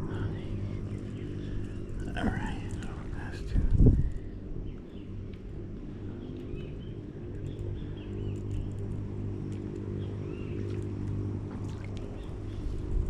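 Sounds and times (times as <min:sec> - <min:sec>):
birds chirping: 0:00.0 - 0:13.0
motorboat engine droning: 0:00.0 - 0:13.0.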